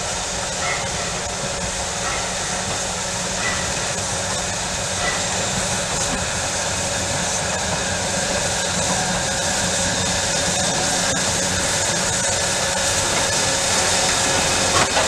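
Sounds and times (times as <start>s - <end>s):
steam hissing: 0.0s - 15.0s
steam locomotive working: 0.0s - 15.0s.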